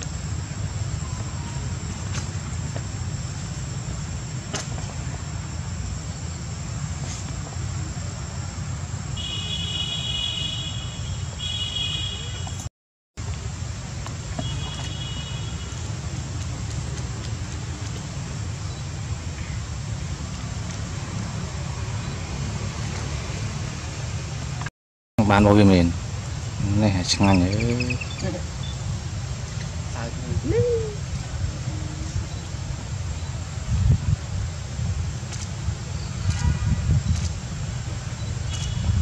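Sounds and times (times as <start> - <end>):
low outdoor rumble: 0.0 - 9.3, 13.2 - 39.0.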